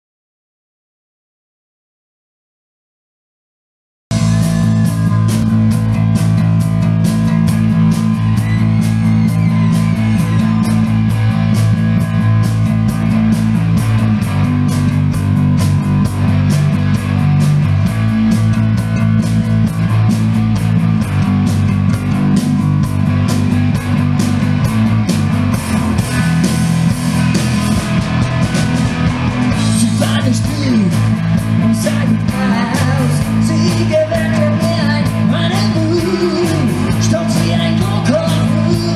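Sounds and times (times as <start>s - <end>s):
bass guitar: 4.1s - 38.9s
electric guitars: 4.1s - 38.9s
fast drumbeat: 4.1s - 38.9s.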